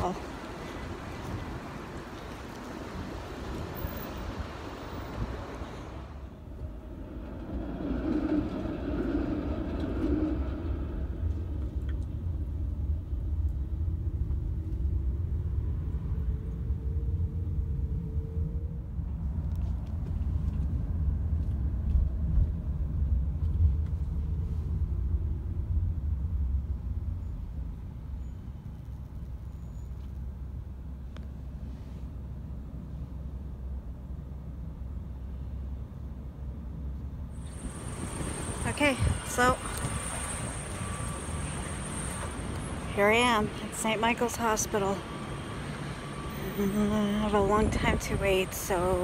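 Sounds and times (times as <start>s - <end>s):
road vehicle rumbling: 0.0s - 49.0s.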